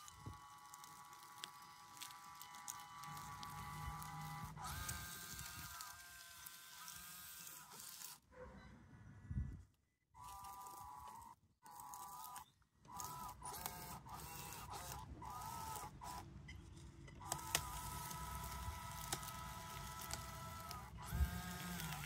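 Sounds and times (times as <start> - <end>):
electric motors whining: 0.0 - 8.2, 10.2 - 22.0.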